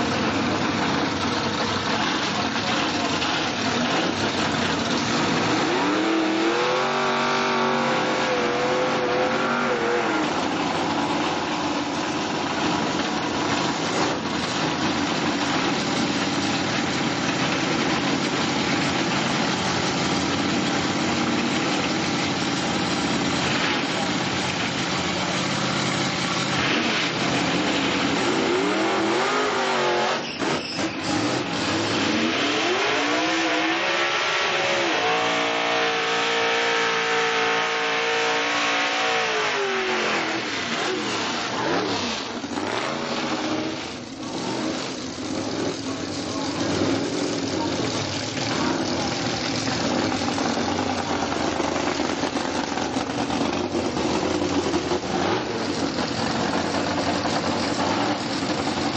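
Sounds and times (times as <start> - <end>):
drag racing engines revving: 0.0 - 58.9.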